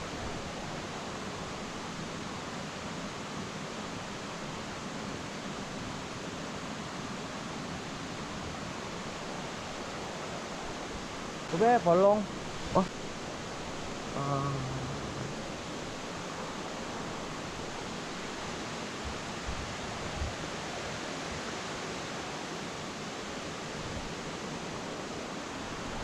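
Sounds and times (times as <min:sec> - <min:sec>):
waterfall roar: 0:00.0 - 0:26.0.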